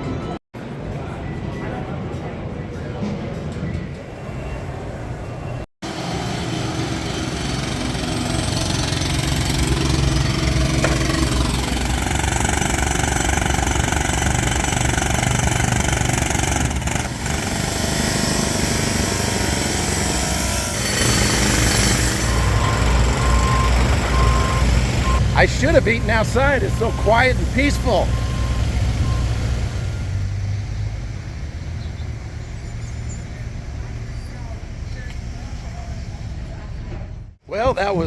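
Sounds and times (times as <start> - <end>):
heavy engine rumbling: 4.7 - 37.4.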